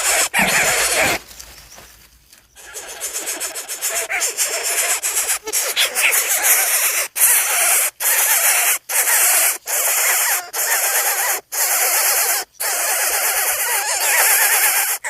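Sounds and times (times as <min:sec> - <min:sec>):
birds squeaking and chirping: 0:00.0 - 0:15.0.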